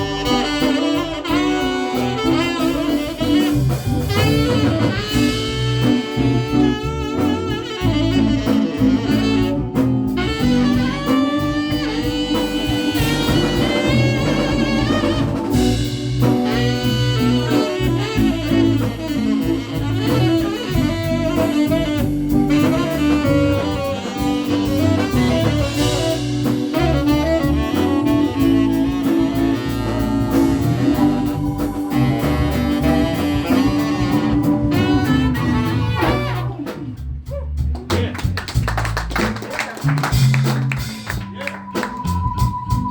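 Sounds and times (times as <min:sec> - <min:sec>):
saxophone soloing: 0:00.0 - 0:37.9, 0:39.8 - 0:42.9
low bass line: 0:00.0 - 0:39.2, 0:39.9 - 0:42.9
drum kit: 0:00.0 - 0:42.9.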